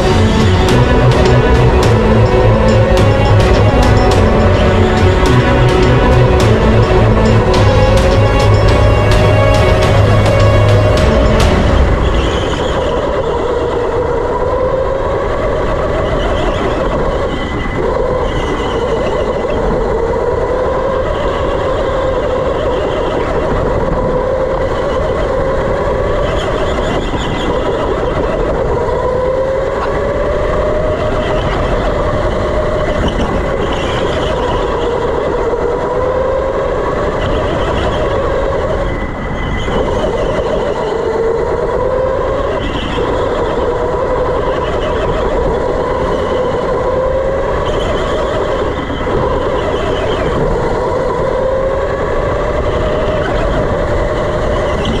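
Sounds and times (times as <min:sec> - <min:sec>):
electric go-kart motor whining: 0:00.0 - 0:55.0.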